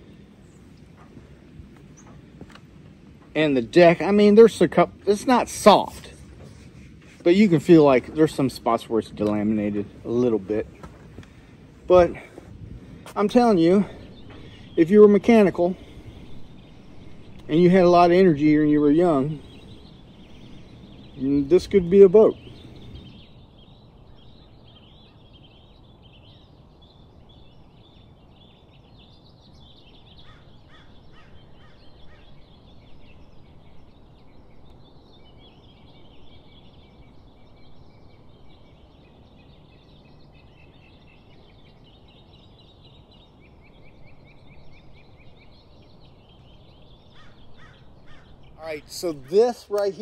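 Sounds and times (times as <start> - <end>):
low outdoor rumble: 0.0 - 50.0
small birds chirping: 0.0 - 50.0.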